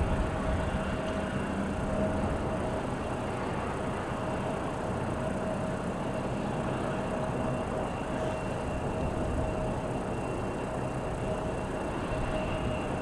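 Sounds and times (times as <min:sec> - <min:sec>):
low rumble of tow tractor: 0:00.0 - 0:13.0.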